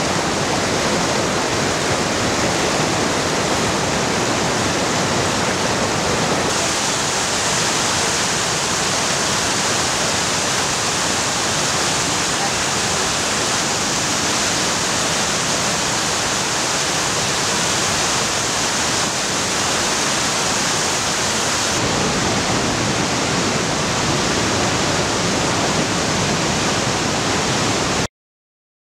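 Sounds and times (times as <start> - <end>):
whitewater rushing over rocks: 0.0 - 28.1.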